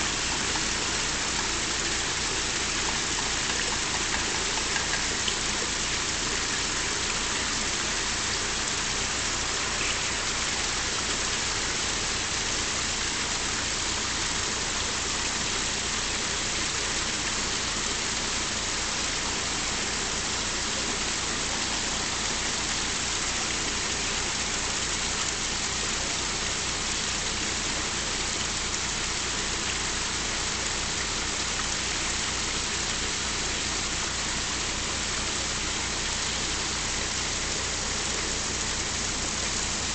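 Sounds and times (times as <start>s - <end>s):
water rushing through lock paddles: 0.0s - 39.9s.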